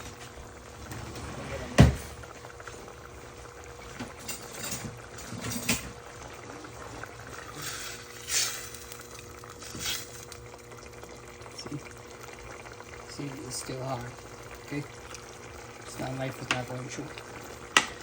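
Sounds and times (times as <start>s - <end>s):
water boiling in a pot: 0.0s - 18.0s.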